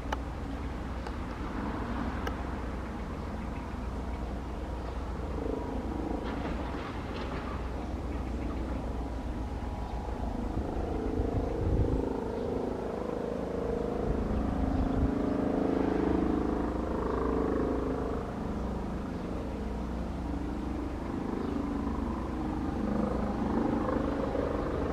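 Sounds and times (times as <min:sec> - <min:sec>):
distant helicopter rotor drone: 0:00.0 - 0:24.9.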